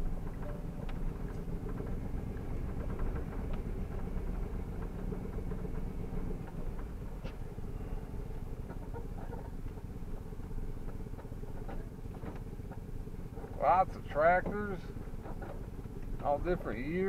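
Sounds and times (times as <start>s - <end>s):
tyres rolling over dirt: 0.0s - 17.0s
vehicle engine running: 0.0s - 17.0s
small clicks and rattles: 0.2s - 16.4s.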